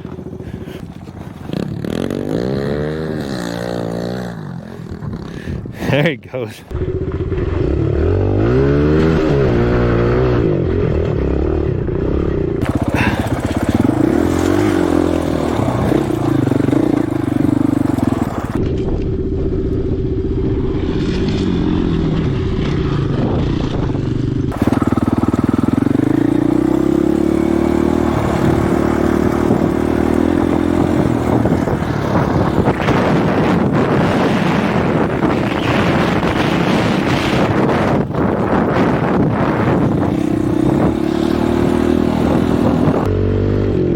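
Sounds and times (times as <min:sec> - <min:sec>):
dirt bike engine revving: 0:00.0 - 0:05.6, 0:06.7 - 0:18.7, 0:19.9 - 0:43.9.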